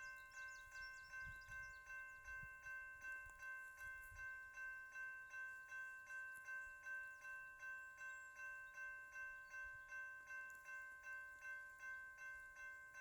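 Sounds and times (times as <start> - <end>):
railroad crossing bell ringing: 0.0 - 13.0.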